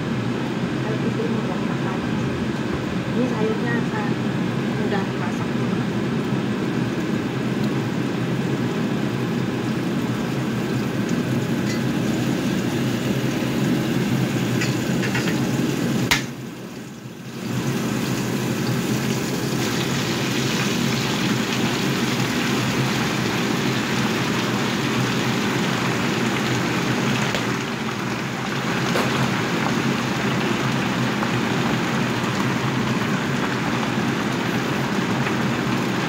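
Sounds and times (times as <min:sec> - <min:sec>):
range hood fan humming: 0:00.0 - 0:36.0
oil sizzling in a frying pan: 0:02.5 - 0:36.0.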